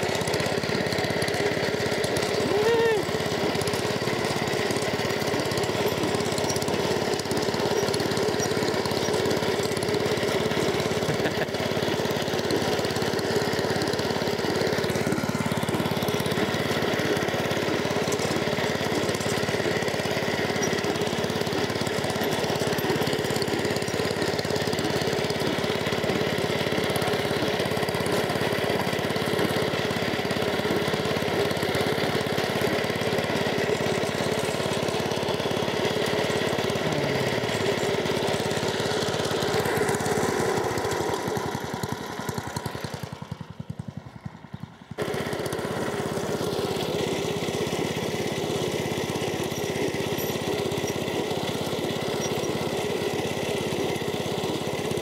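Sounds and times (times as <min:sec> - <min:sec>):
lawnmower engine running: 0:00.0 - 0:55.0.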